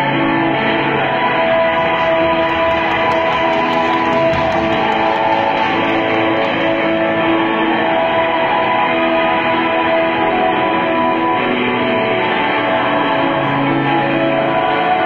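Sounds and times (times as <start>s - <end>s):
worship song with guitar: 0.0s - 15.0s.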